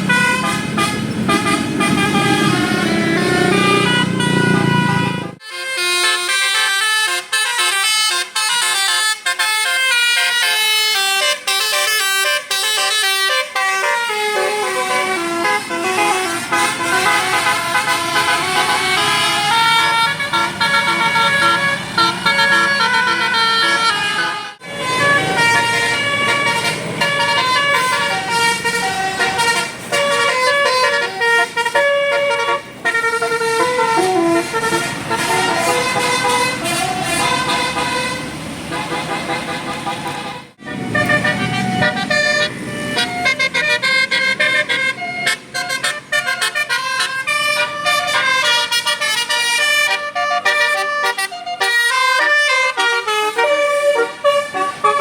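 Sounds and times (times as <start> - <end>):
engine rumble: 0.0 - 5.5, 10.7 - 55.0
musical bus horn melody: 0.0 - 55.0.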